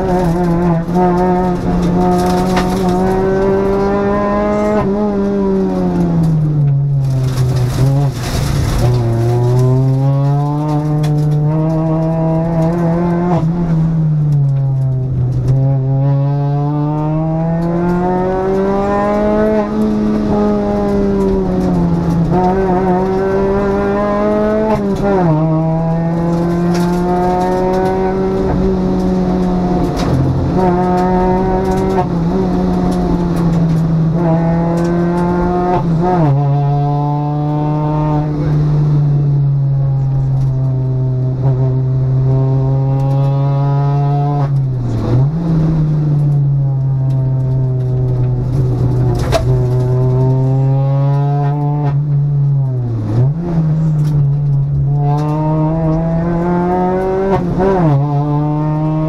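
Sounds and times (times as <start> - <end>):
rally car engine running hard: 0.0 - 59.0.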